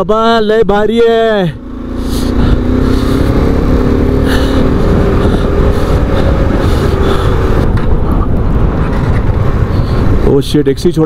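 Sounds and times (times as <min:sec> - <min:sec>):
wind and road noise: 0:00.0 - 0:11.0
motorcycle engine running: 0:01.2 - 0:10.8.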